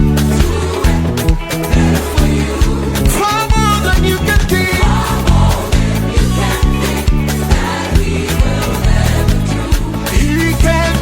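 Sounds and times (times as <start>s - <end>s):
bass guitar line: 0.0s - 11.0s
gospel band music: 0.0s - 11.0s
steady drum beat: 0.0s - 11.0s.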